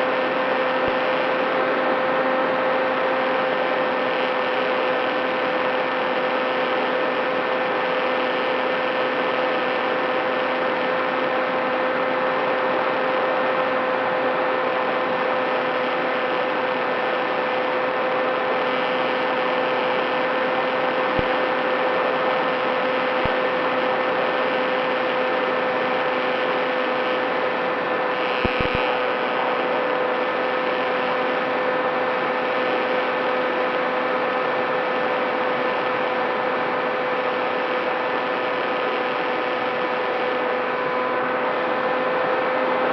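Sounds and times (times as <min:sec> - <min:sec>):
model plane motor whine: 0:00.0 - 0:42.9.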